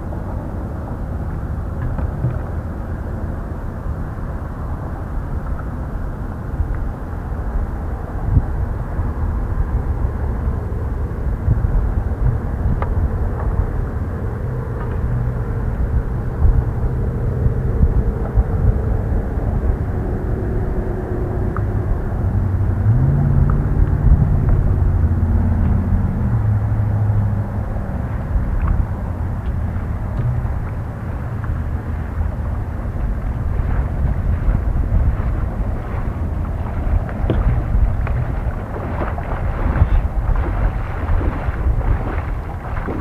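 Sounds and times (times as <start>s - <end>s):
low droning hum: 0.0s - 43.0s
wind buffeting microphone: 0.0s - 43.0s.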